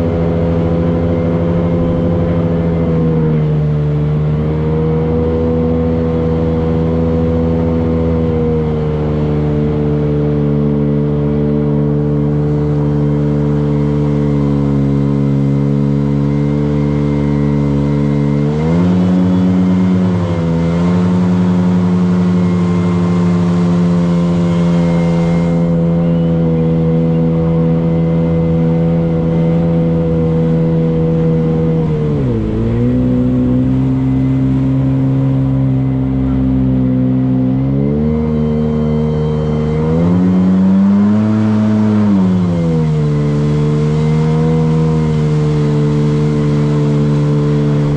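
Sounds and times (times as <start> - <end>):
motorboat engine running: 0.0 - 47.9.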